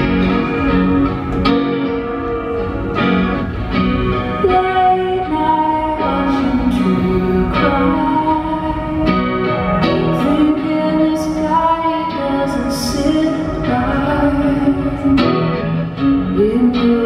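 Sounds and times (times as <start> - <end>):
electric guitar chords: 0.0 - 17.0
live indie band music: 0.0 - 17.0.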